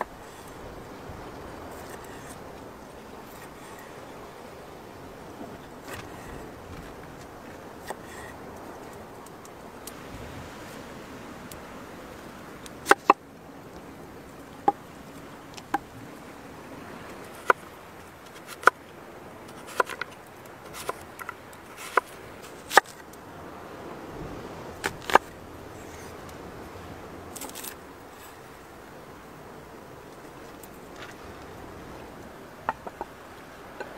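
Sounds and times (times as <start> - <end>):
rustle: 0.0 - 33.9.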